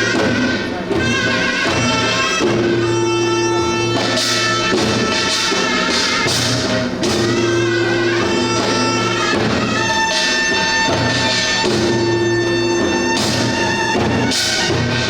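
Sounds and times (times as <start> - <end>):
reedy wind instrument melody: 0.0 - 15.0
sharp drum strikes: 0.0 - 15.0.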